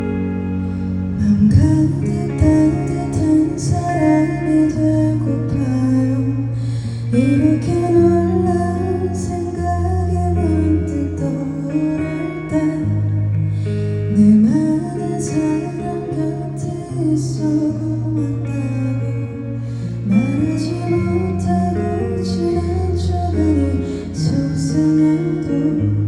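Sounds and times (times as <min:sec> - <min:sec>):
guitar: 0:00.0 - 0:26.0
person singing: 0:00.0 - 0:26.0
sustained bass notes: 0:00.0 - 0:26.0.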